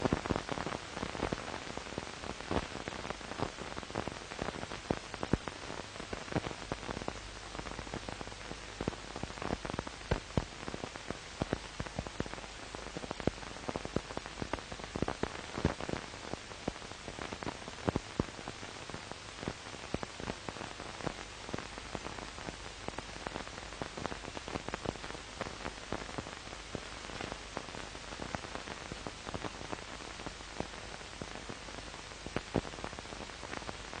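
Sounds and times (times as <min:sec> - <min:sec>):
crackles and pops: 0:00.0 - 0:34.0
film hiss: 0:00.0 - 0:34.0.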